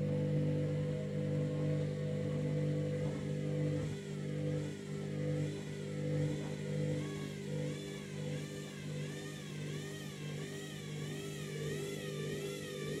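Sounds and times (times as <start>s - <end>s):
washing machine motor hum: 0.0s - 13.0s
wavering motor whine: 0.0s - 13.0s.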